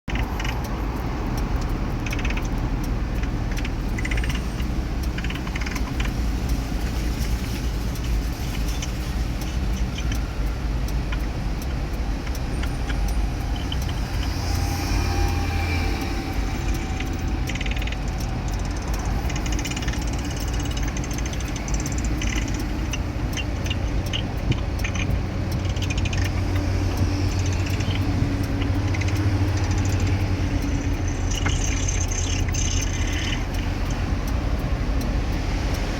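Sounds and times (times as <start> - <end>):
car engine and tyres rumbling: 0.0 - 35.9
light rattling and clicking: 0.1 - 35.9.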